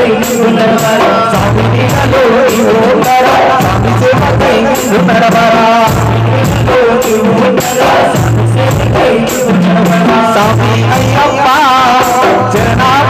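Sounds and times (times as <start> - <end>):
low bass notes: 0.0 - 3.0, 3.6 - 9.3, 10.1 - 11.9, 12.5 - 13.0
man singing into a microphone: 0.0 - 13.0
steady drum beat: 0.0 - 13.0.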